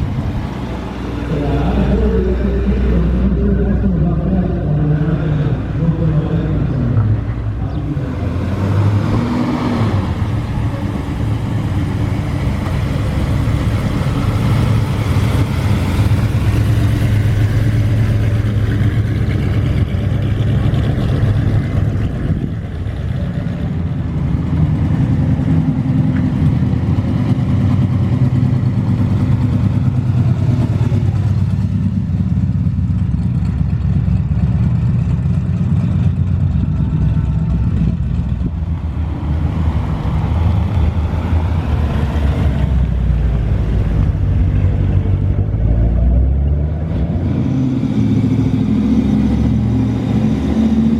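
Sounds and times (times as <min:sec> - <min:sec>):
car engines running at low revs: 0:00.0 - 0:50.9.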